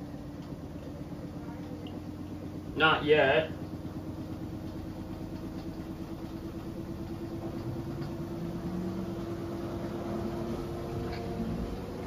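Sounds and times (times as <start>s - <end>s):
washing machine spin cycle: 0.0s - 12.0s.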